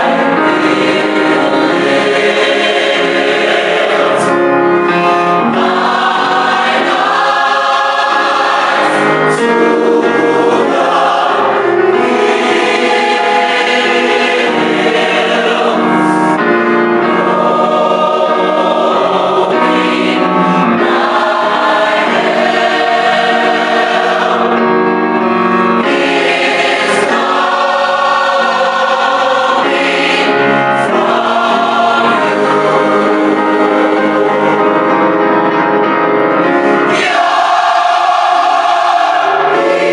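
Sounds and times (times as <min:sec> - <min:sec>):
choir singing gospel: 0:00.0 - 0:39.9.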